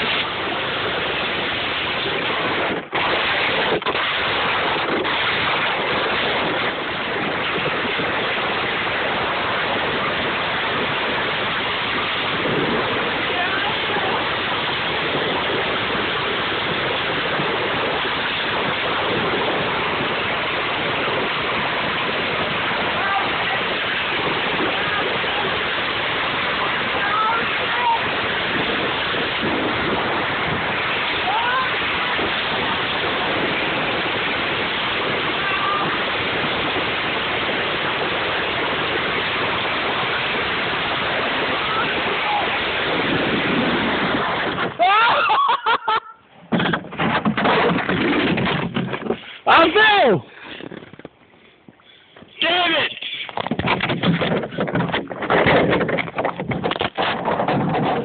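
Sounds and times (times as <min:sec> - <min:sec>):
bucket sliding over snow: 0:00.0 - 0:58.0.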